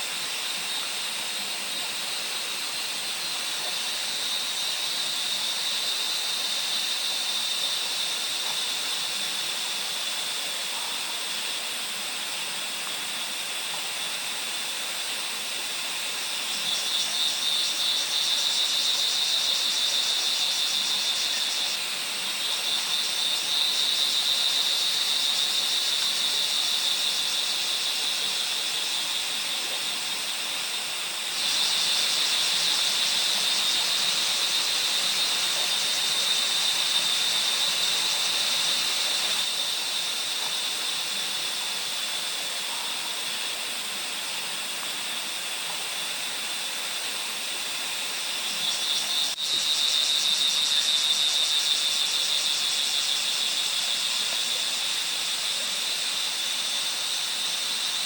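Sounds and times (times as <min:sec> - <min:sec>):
insects trilling: 0:00.0 - 0:58.0
steady hiss: 0:00.0 - 0:58.0.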